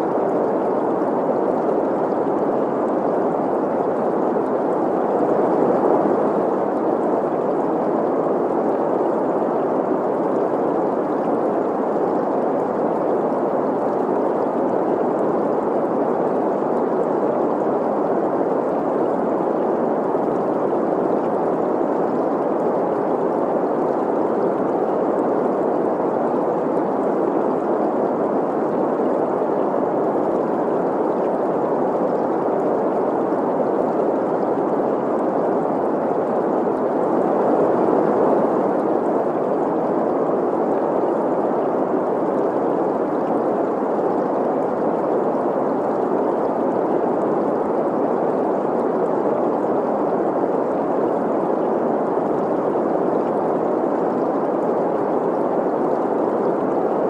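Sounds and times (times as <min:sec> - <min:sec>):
stream flowing: 0:00.0 - 0:57.0
synthesized noise hiss: 0:00.0 - 0:57.0.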